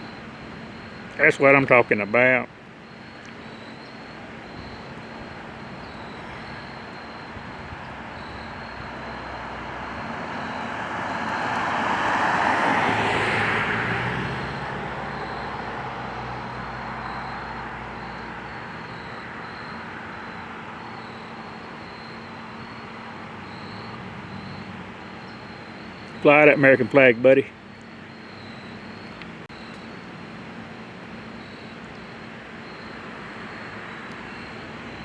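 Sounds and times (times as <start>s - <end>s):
truck passing by: 0.0s - 35.0s.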